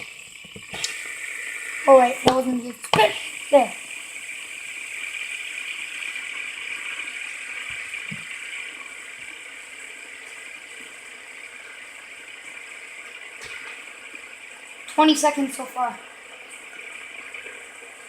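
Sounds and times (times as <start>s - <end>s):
fidget spinners whirring: 0.0s - 18.0s.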